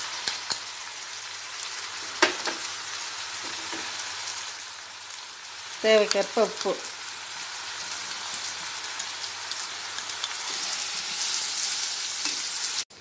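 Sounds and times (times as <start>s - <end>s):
prawns sizzling in a frying pan: 0.0s - 13.0s.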